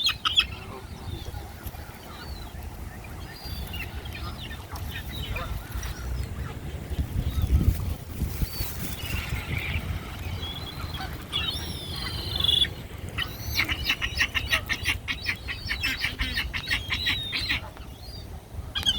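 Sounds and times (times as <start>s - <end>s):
wild birds chirping: 0.0s - 18.9s.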